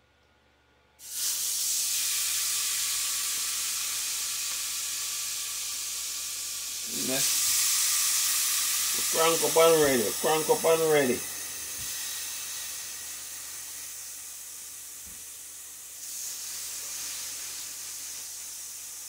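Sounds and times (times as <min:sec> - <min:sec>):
chicken sizzling on grill: 0:01.0 - 0:19.0.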